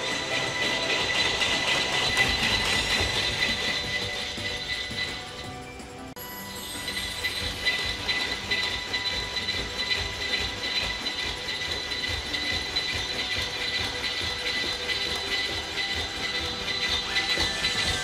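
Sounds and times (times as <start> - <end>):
fast irregular clicking: 0.0 - 6.2, 6.8 - 18.0.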